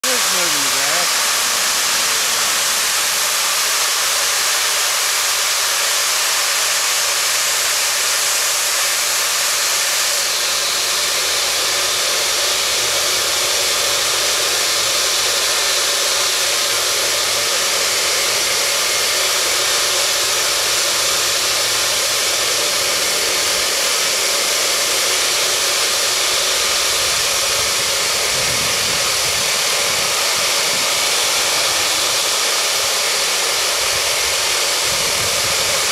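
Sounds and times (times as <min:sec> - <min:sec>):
gas venting hiss: 0:00.0 - 0:35.9.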